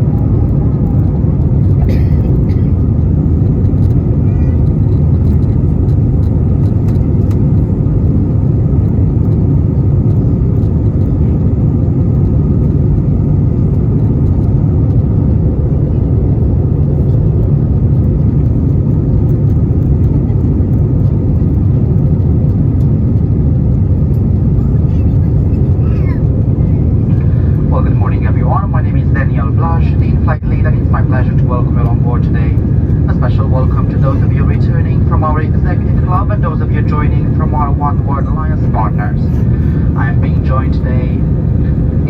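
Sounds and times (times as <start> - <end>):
jet engines low rumble: 0.0 - 42.0.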